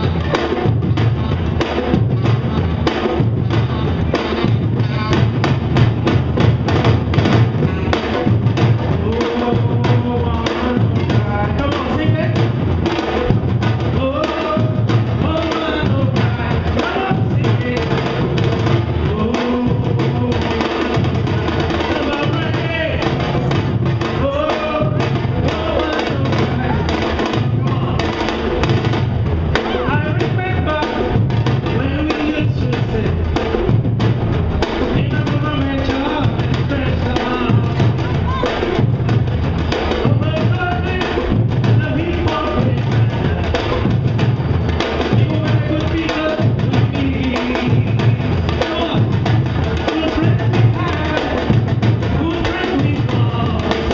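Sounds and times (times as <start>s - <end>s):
drum section groove: 0.0s - 53.9s
person singing through pa: 7.3s - 28.9s, 29.5s - 33.7s, 34.8s - 53.9s.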